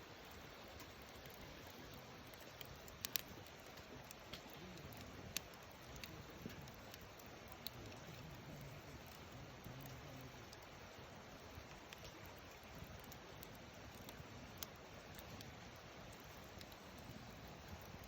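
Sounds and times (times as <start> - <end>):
campfire hissing: 0.0 - 18.0
fire crackling and popping: 0.0 - 18.0.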